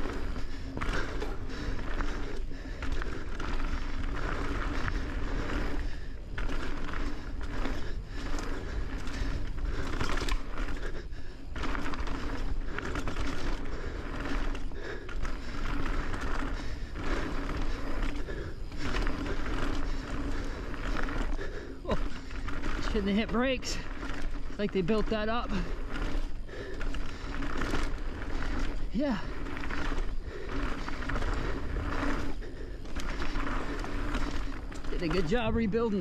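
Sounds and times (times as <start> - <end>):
bike rattling over bumps: 0.0 - 36.0
tyres crunching over dirt: 0.0 - 36.0.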